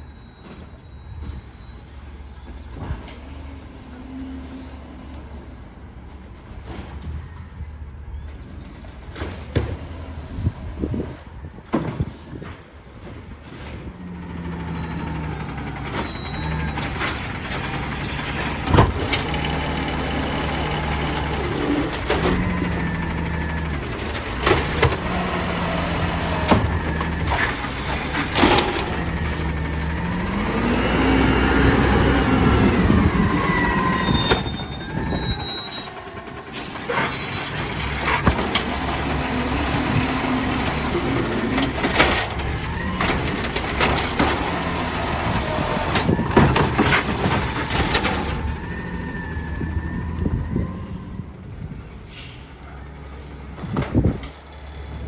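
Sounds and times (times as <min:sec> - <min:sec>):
diesel truck engine revving: 0:02.8 - 0:55.0.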